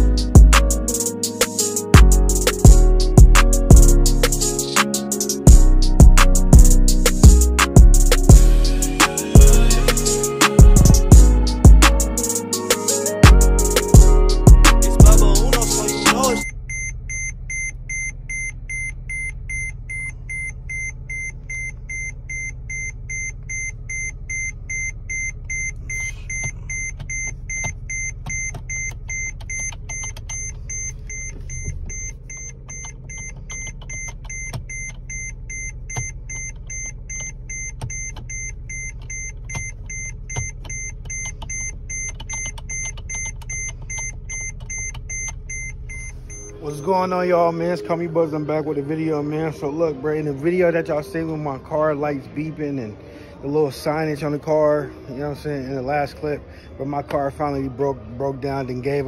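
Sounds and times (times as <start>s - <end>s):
dashboard warning chime beeping: 0.0s - 49.1s
car engine idling: 0.0s - 59.0s.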